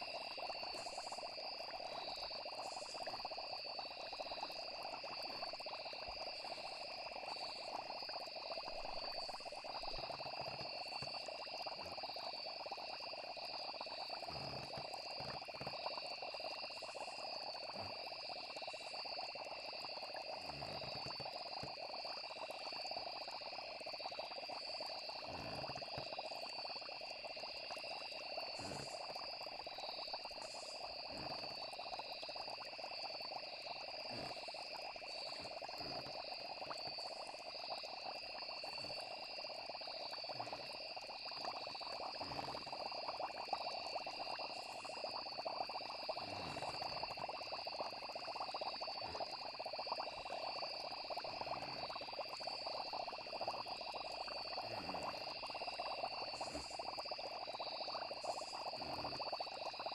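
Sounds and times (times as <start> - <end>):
chorus of frogs: 0.0 - 59.9
high insect trill: 0.0 - 59.9
low frog croaks: 0.0 - 59.9.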